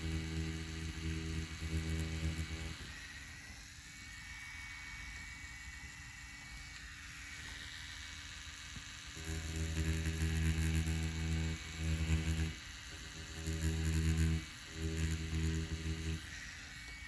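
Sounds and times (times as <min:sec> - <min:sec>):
tattoo machine buzzing: 0:00.0 - 0:17.0.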